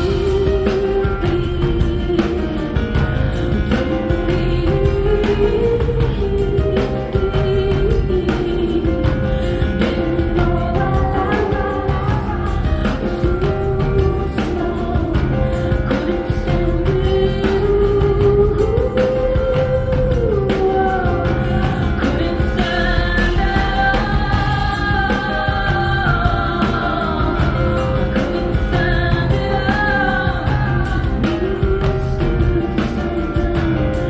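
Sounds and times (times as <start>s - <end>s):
drum beat: 0.0s - 34.0s
live rock band: 0.0s - 34.0s
person singing: 0.0s - 34.0s.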